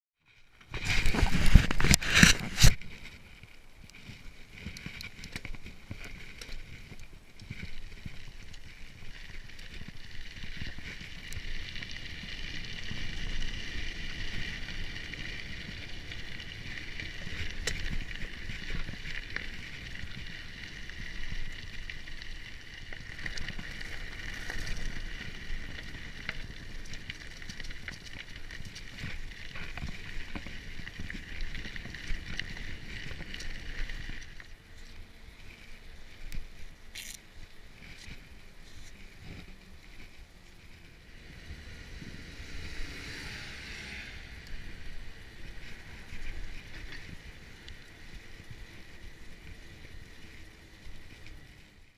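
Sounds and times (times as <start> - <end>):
bike tyre and trail rumble: 0.2 - 51.9
wind: 0.2 - 51.9
high whir from bike: 4.0 - 51.7.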